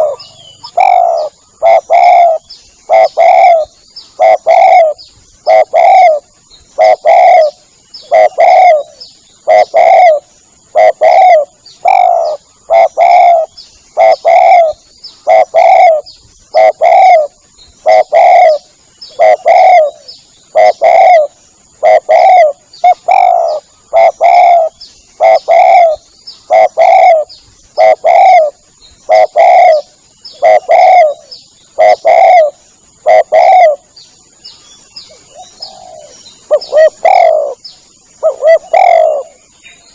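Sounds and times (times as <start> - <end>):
dove cooing: 0.0 - 33.9, 35.3 - 37.6, 38.2 - 39.4.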